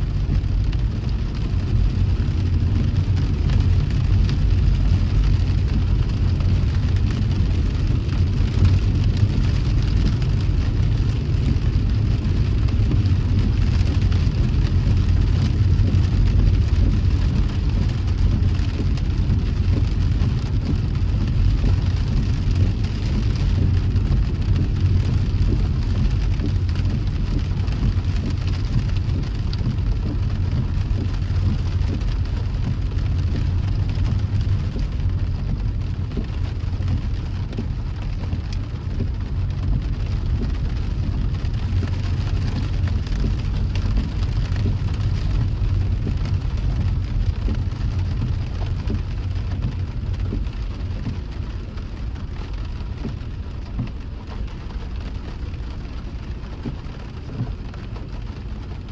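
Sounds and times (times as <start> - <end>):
falling rain: 0.0 - 58.9
road rumble: 0.0 - 58.9.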